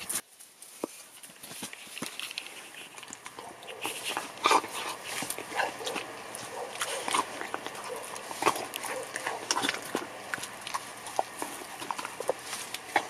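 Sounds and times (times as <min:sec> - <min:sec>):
dog chewing and licking: 0:01.4 - 0:13.0.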